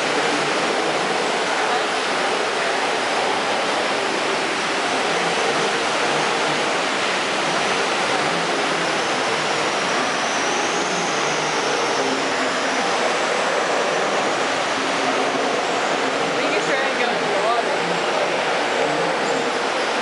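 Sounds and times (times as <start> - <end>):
seawater churning around rocks: 0.0 - 20.0.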